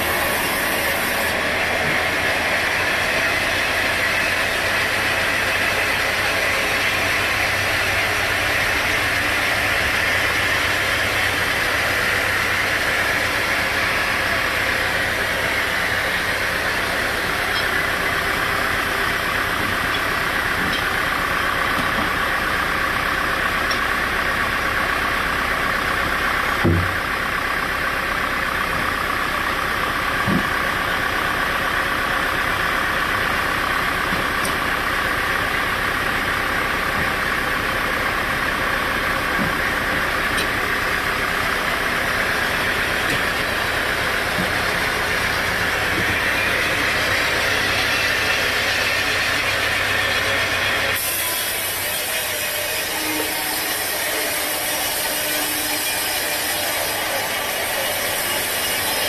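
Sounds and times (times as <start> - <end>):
sawmill machinery rumbling: 0.0 - 59.0.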